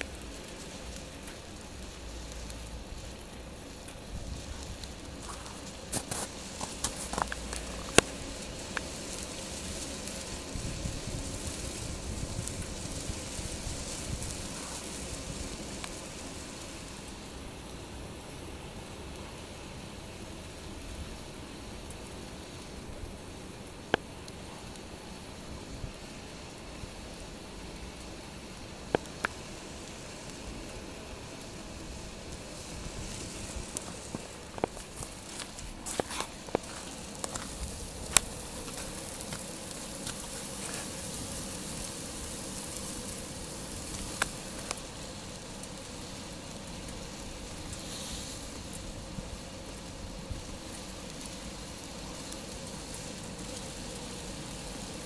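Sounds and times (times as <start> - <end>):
fire popping: 0.0 - 17.9, 20.8 - 55.0
sap boiling hiss: 0.0 - 55.0.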